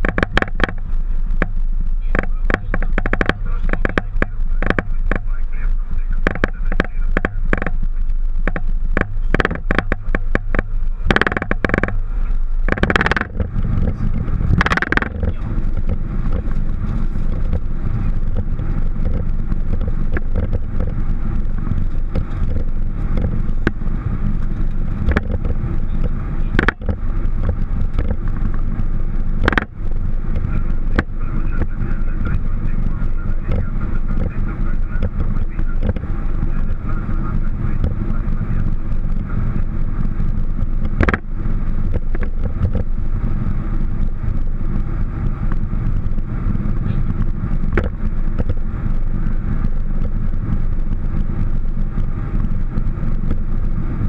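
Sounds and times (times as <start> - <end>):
sharp clicks and knocks: 0.0 - 5.4, 6.2 - 53.8
low rumble of engines and airflow: 0.0 - 54.0.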